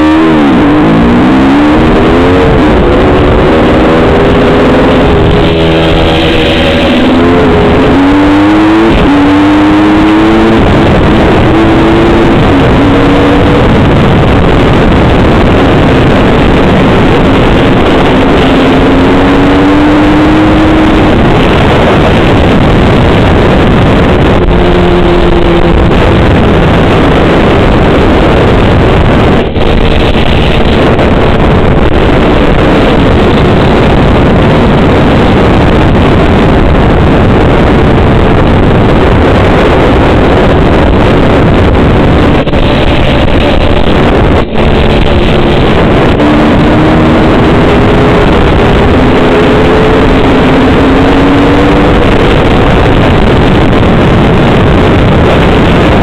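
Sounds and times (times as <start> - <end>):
dirt bike engine: 0.0 - 56.0
wind roar on microphone: 0.0 - 56.0.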